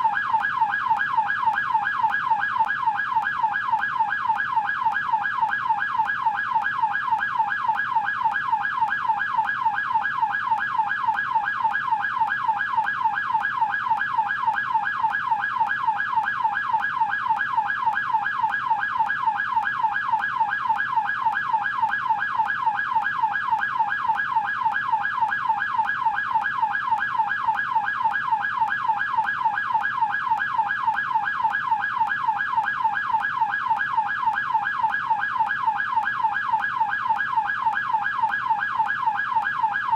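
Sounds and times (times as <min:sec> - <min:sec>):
police siren yelp: 0:00.0 - 0:39.9.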